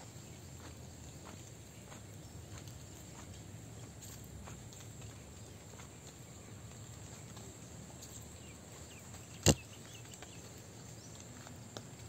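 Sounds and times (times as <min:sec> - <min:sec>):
rural outdoor ambience: 0:00.0 - 0:12.0
small ticks: 0:00.6 - 0:12.0.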